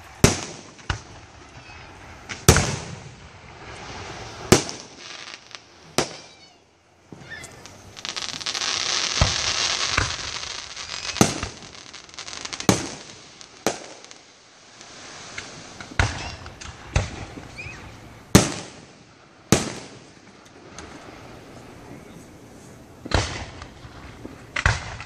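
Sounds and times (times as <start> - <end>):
fireworks bangs: 0.0 - 25.0
fireworks crackling: 0.0 - 25.0.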